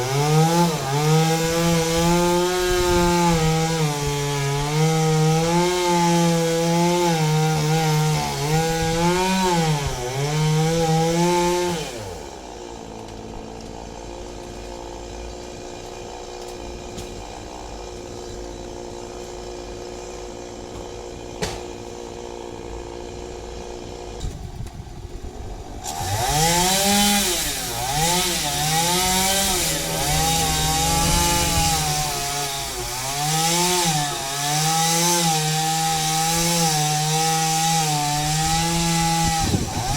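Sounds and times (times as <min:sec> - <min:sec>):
chainsaw cutting and idling: 0:00.0 - 0:39.9.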